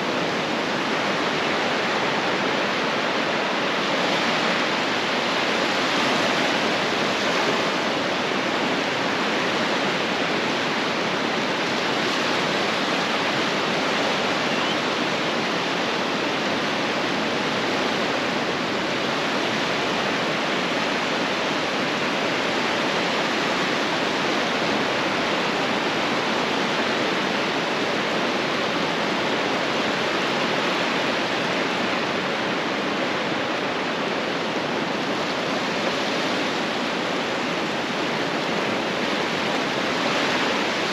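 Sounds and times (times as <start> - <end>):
ocean surf on beach: 0.0 - 40.9.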